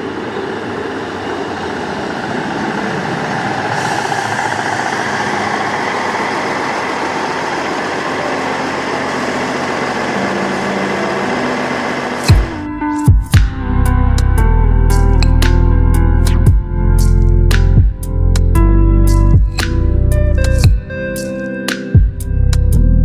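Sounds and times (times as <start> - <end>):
low engine hum: 0.0 - 21.3
diesel train rumbling: 0.0 - 21.4.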